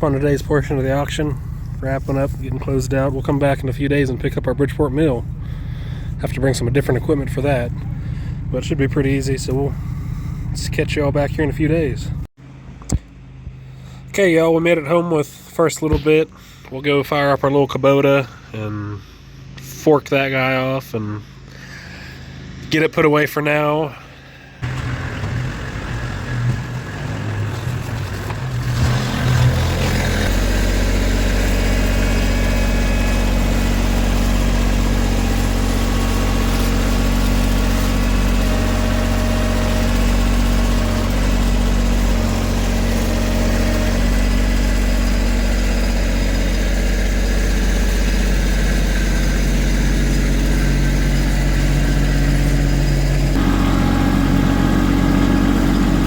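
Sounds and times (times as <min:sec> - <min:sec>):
tractor diesel engine starting and idling: 0:00.0 - 0:56.0.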